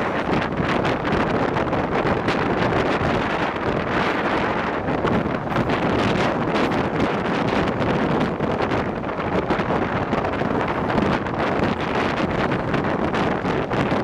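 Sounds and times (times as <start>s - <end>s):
train carriage rumbling on track: 0.0s - 14.0s
wind buffeting microphone: 0.0s - 14.0s.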